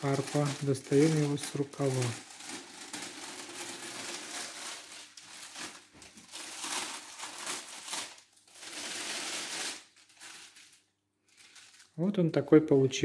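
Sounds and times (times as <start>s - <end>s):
plastic sleeve crinkling: 0.0s - 12.3s.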